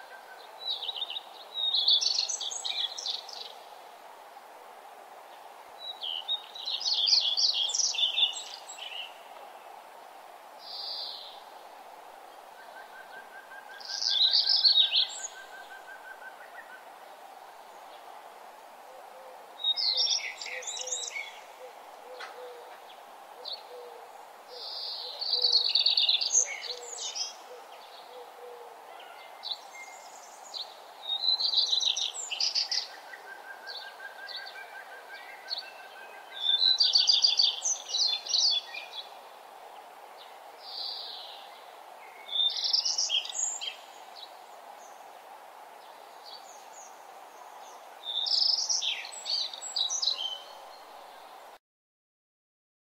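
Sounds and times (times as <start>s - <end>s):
songbird singing: 0.0s - 3.9s, 5.1s - 51.6s.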